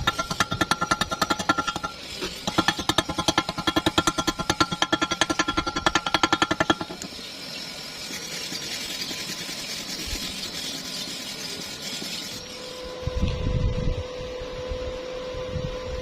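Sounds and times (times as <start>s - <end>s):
welding arc crackling and hissing: 0.0s - 12.9s
steady hum: 0.0s - 16.0s.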